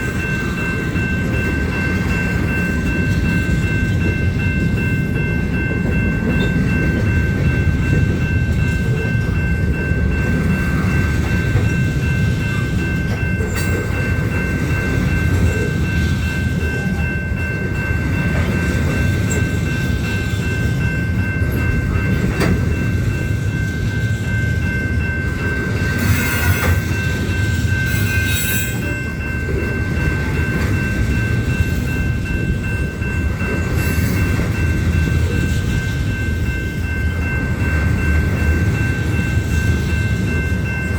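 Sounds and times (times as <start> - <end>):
constant high-pitched tone: 0.0 - 40.9
freight train cars rumbling: 0.0 - 40.9.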